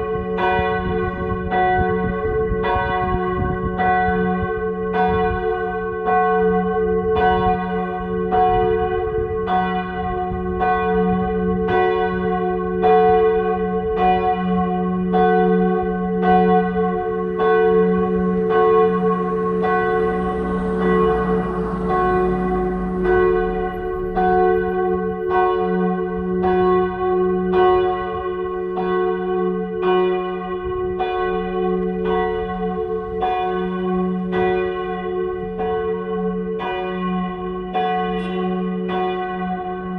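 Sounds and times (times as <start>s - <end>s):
hum of larger bells: 0.0s - 39.9s.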